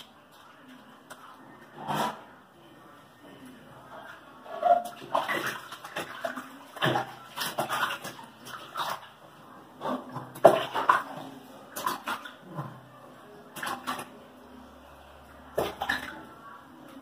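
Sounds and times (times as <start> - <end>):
water splashing in a bathtub: 0.0 - 17.0.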